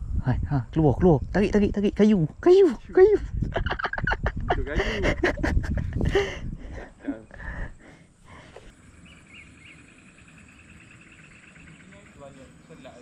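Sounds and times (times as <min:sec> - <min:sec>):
insects buzzing: 0:01.2 - 0:13.0.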